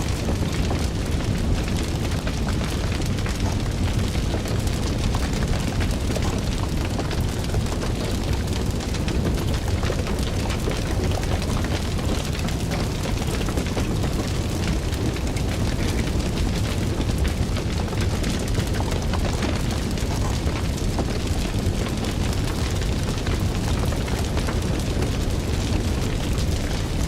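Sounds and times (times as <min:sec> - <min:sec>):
fire crackling and popping: 0:00.0 - 0:27.0.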